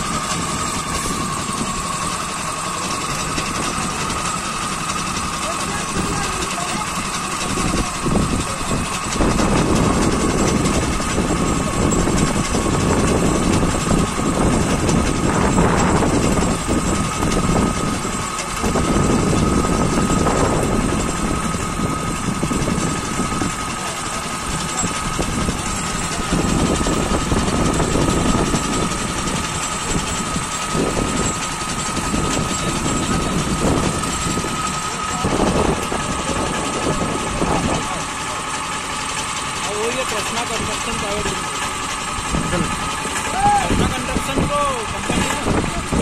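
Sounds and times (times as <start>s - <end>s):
engine low rumble: 0.0s - 46.0s
steady whine: 0.0s - 46.0s.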